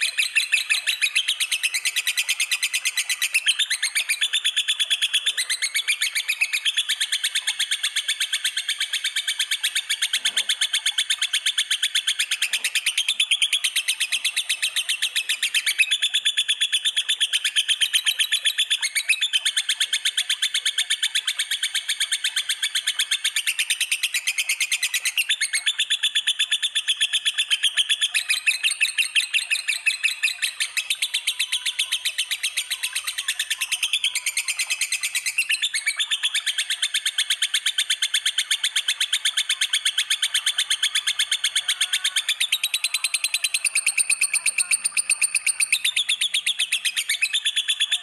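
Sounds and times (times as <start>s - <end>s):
cage birds chirping trills: 0.0s - 48.0s.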